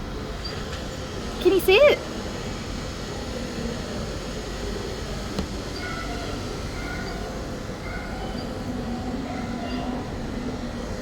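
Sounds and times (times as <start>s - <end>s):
machine whirring and rumbling: 0.0s - 11.0s.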